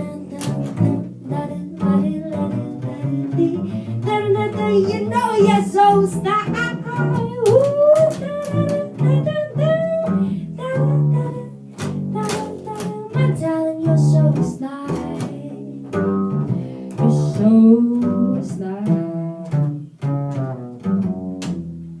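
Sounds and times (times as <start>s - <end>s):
plucked double bass: 0.0s - 22.0s.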